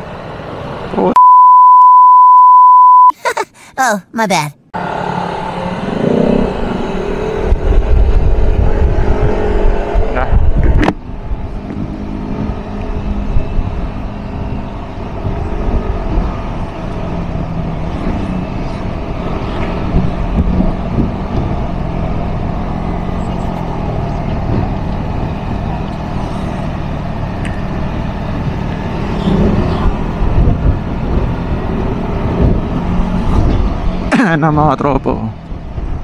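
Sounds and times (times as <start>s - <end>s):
wind and road noise: 0.0s - 1.2s, 4.6s - 36.0s.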